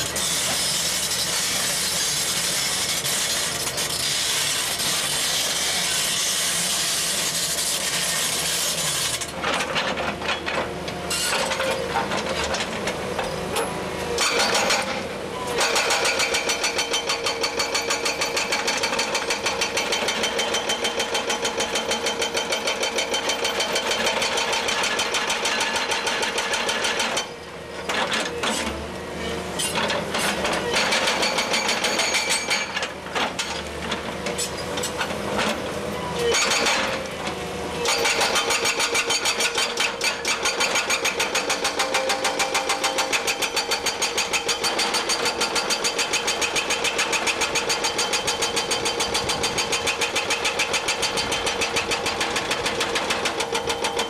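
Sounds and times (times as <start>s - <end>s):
hydraulic breaker hammering rock: 0.0s - 28.8s, 29.6s - 54.0s.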